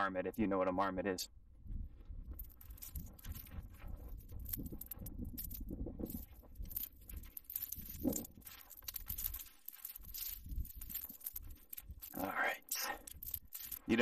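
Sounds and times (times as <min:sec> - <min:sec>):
footsteps through dry brush: 0:01.6 - 0:14.0
twigs scraping and snapping: 0:02.3 - 0:14.0.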